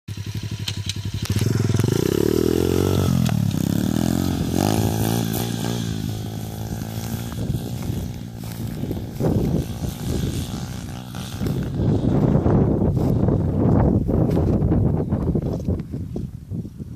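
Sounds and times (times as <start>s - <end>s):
motorbike engine revving: 0.1s - 14.4s.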